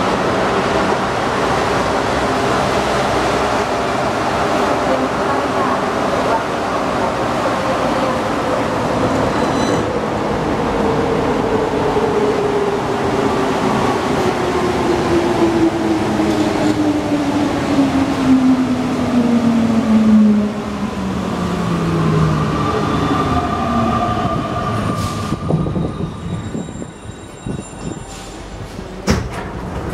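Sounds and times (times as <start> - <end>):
metro train running rumble: 0.0 - 29.9.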